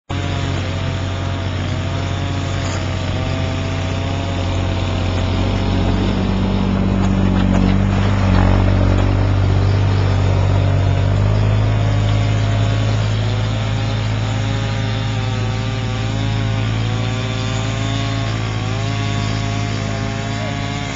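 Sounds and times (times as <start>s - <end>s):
atv engine running: 0.1s - 20.9s.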